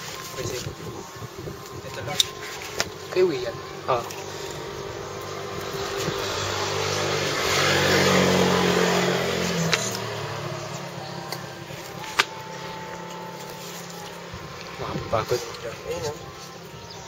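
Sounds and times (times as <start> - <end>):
vehicle passing by: 2.2 - 16.9.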